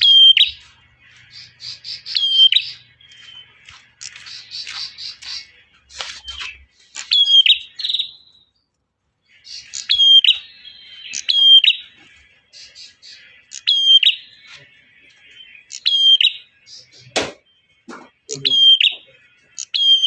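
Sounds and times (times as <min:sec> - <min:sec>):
buzzy bird chatter: 0:00.0 - 0:08.4, 0:09.3 - 0:17.2
bird singing ringing phrase: 0:00.0 - 0:20.0.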